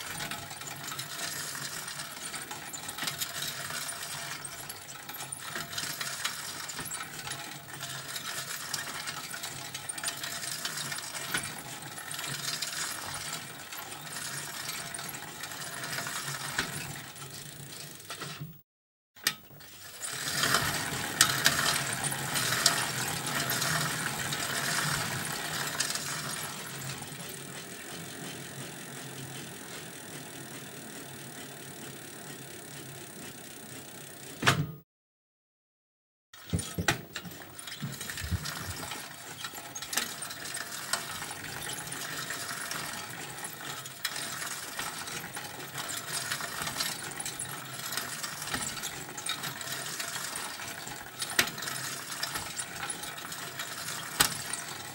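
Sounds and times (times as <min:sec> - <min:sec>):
bicycle freewheel ticking: 0:00.0 - 0:18.3, 0:19.2 - 0:34.4, 0:36.4 - 0:54.9.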